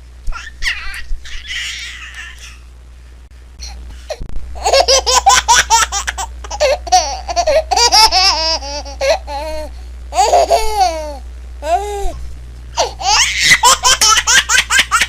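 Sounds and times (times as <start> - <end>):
baby giggling and squealing: 0.3 - 2.6, 4.6 - 12.2, 12.8 - 15.0.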